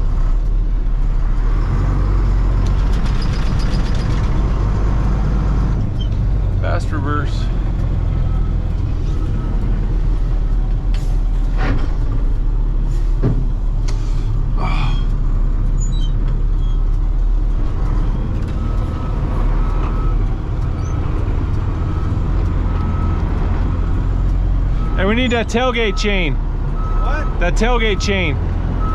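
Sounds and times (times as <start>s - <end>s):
heavy equipment engine running: 0.0s - 28.9s.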